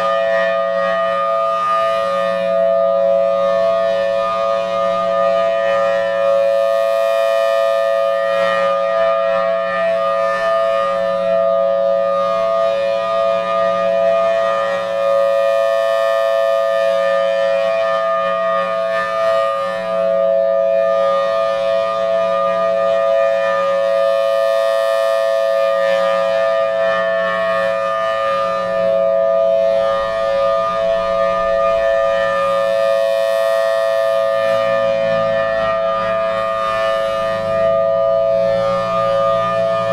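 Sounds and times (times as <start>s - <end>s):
rotating civil-defense siren: 0.0s - 39.9s.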